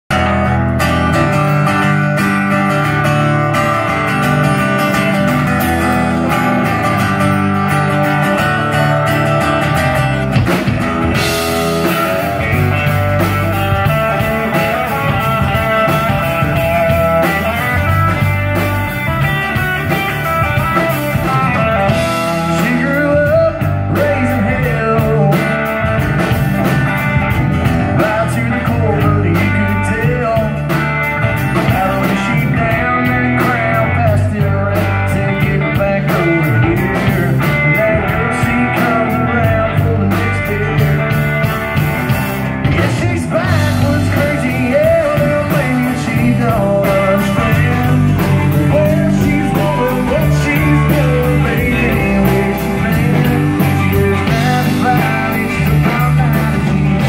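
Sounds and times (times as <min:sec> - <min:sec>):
acoustic guitar: 0:00.0 - 0:57.0
bass guitar: 0:00.0 - 0:57.0
drums: 0:00.0 - 0:57.0
electric guitar: 0:00.0 - 0:57.0.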